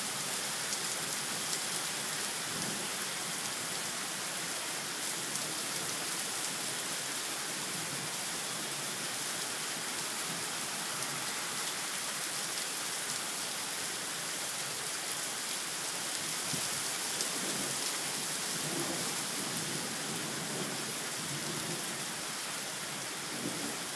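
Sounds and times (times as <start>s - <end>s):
heavy rain on pavement: 0.0s - 23.9s.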